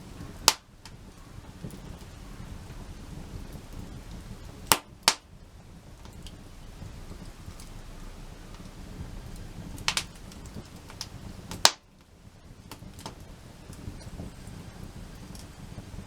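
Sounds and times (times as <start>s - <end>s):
wood campfire crackling: 0.0s - 16.0s.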